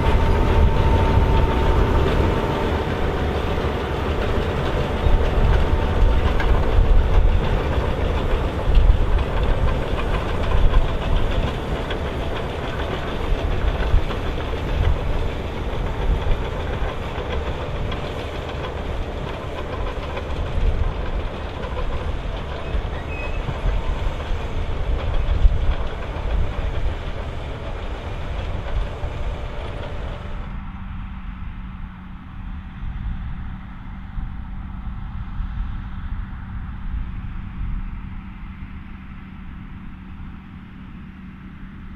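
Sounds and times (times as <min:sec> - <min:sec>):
steady low hum: 0:00.0 - 0:41.9
tractor and harvester rumbling: 0:00.0 - 0:41.9.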